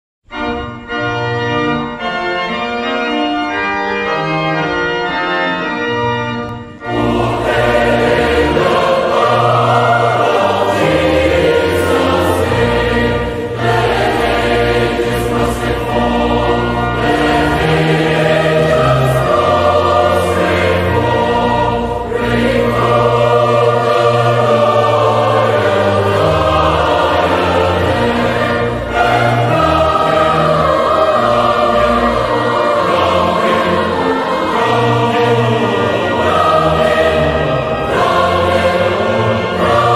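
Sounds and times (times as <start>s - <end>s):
organ playing: 0.2s - 39.9s
choir singing: 6.8s - 39.9s.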